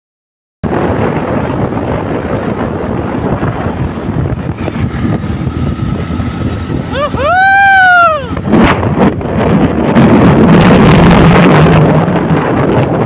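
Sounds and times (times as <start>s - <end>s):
wind buffeting microphone: 0.6s - 13.0s.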